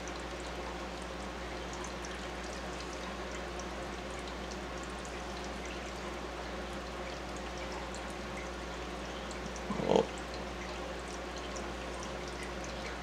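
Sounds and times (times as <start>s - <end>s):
aquarium water trickling and bubbling: 0.0s - 13.0s
low pump hum: 0.0s - 13.0s.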